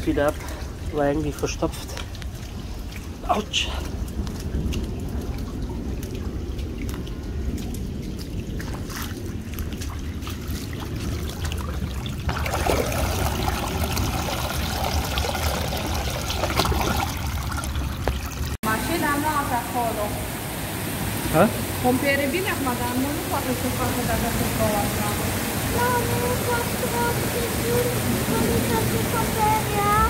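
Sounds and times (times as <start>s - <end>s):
water running into drain: 0.0s - 18.6s, 21.1s - 30.0s.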